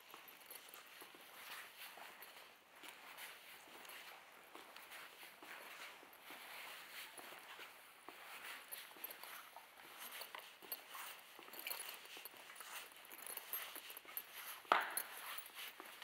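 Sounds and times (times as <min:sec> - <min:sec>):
footsteps crunching on concrete: 0:00.0 - 0:16.0.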